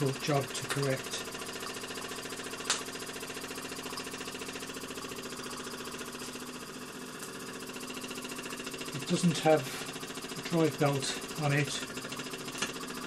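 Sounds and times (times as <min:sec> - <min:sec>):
model steam engine chuffing: 0:00.0 - 0:13.0.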